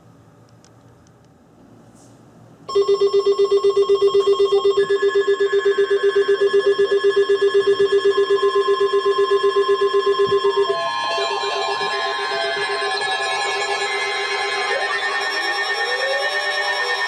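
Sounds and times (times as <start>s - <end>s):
pulsing electronic alert tone: 2.7s - 17.0s
steady high tones: 2.7s - 17.0s.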